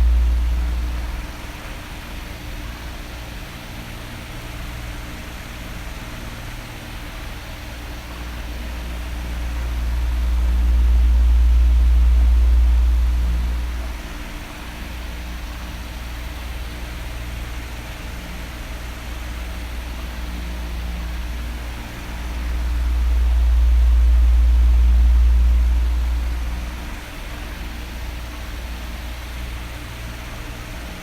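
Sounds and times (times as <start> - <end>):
electric fan whooshing: 0.0 - 4.4, 5.5 - 31.0.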